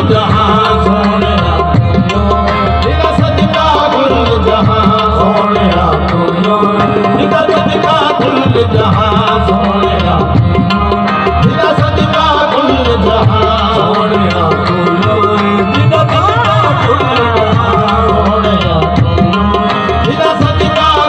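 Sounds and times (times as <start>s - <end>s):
harmonium tones: 0.0s - 21.0s
person singing: 0.0s - 21.0s
tabla beat: 0.0s - 21.0s.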